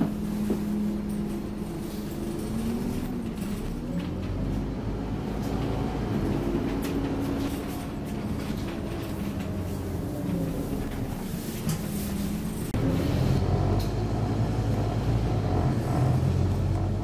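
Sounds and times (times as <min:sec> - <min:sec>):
bus diesel engine humming: 0:00.0 - 0:17.0.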